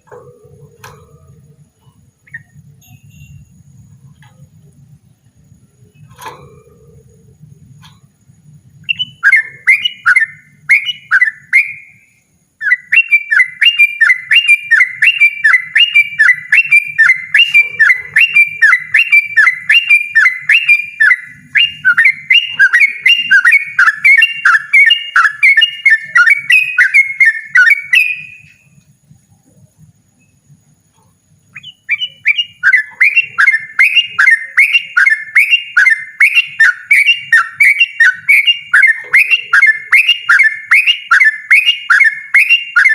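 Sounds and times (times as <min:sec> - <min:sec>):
bulbul singing falling notes: 0:00.0 - 0:28.8, 0:30.2 - 0:42.9.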